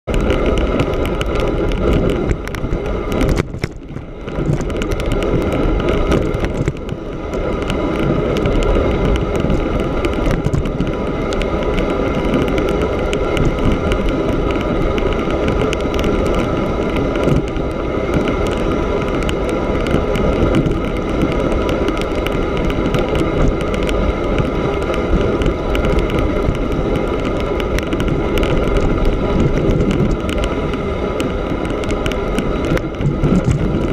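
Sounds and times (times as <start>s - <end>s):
bicycle tyres rolling over snow: 0.0s - 33.9s
wind on microphone: 0.0s - 33.9s.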